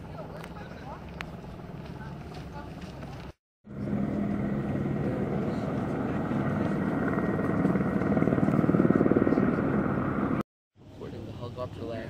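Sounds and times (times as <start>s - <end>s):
helicopter rotor chopping: 0.0s - 10.4s.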